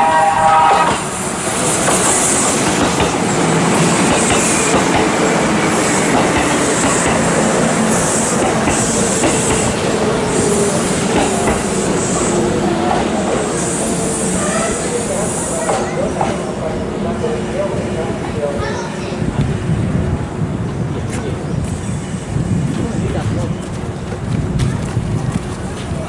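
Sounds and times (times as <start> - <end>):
electric train rumbling on rails: 0.0 - 26.0.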